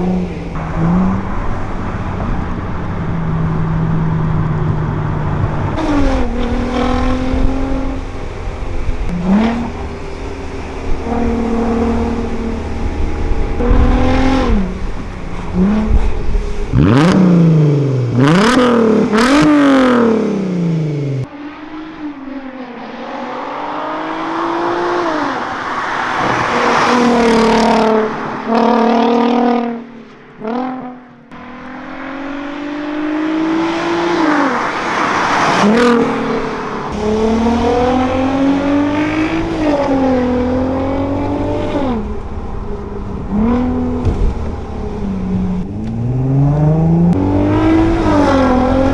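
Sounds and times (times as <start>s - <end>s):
car engine accelerating hard: 0.0s - 48.9s.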